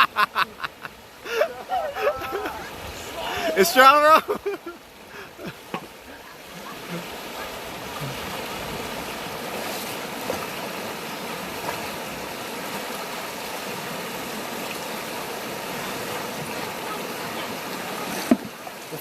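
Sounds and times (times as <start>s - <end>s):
river current rushing: 0.0s - 19.0s.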